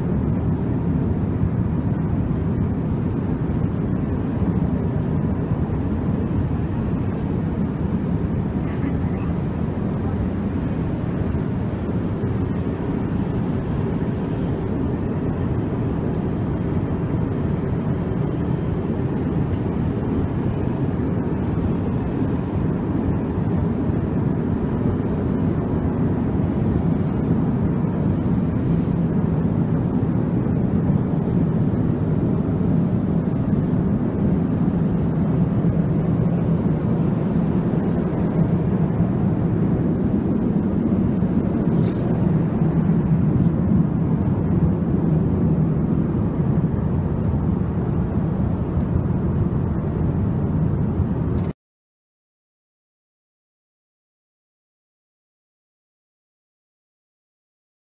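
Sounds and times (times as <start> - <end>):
airplane cabin noise: 0.0 - 51.6.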